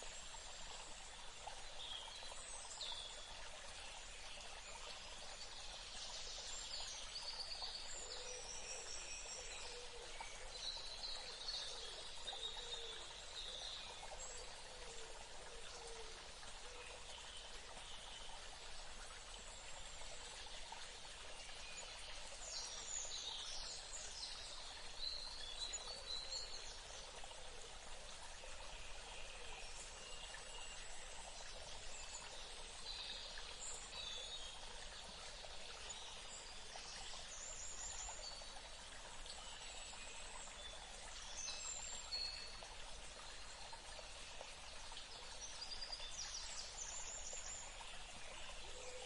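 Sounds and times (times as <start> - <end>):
trickling stream: 0.0 - 49.0.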